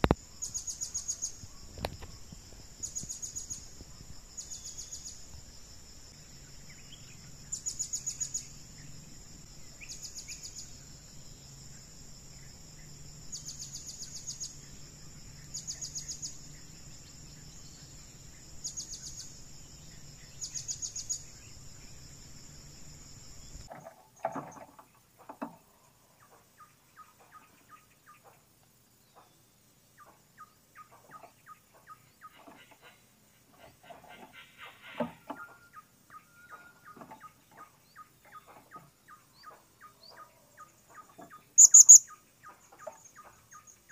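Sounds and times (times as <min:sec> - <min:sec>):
pulsed insect trills: 0:00.0 - 0:25.6, 0:28.8 - 0:43.9
insects buzzing: 0:00.0 - 0:43.9.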